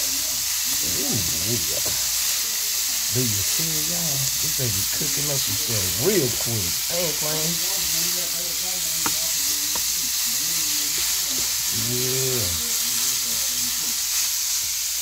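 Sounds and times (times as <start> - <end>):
sausage sizzling on grill: 0.0 - 15.0
spatula stirring meat: 0.3 - 15.0.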